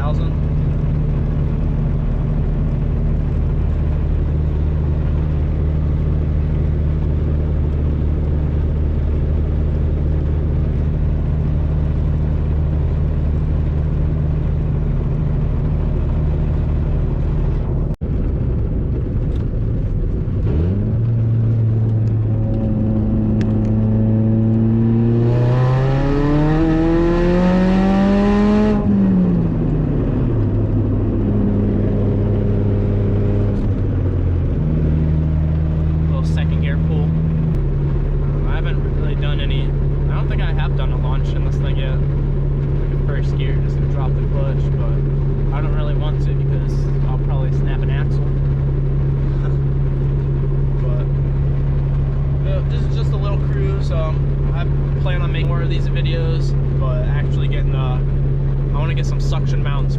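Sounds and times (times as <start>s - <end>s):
car engine droning and revving: 0.0s - 59.9s.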